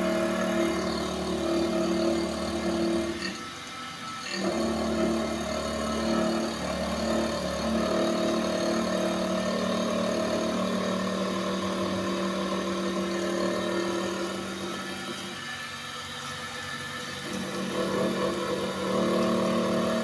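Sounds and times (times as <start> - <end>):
sharpening machine motor hum: 0.0 - 20.0.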